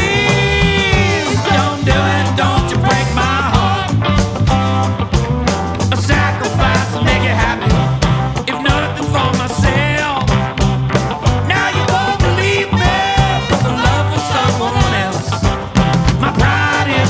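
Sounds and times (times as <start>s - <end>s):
bass line: 0.0s - 17.0s
rock band playing: 0.0s - 17.0s
steady drum beat: 0.0s - 17.0s.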